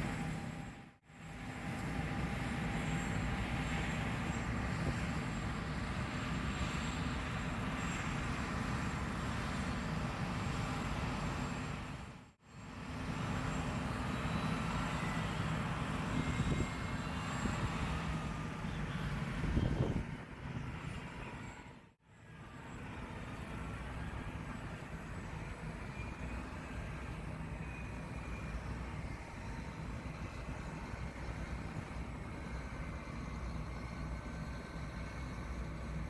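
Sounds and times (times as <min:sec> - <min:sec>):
combine harvester droning: 0:00.0 - 0:36.0.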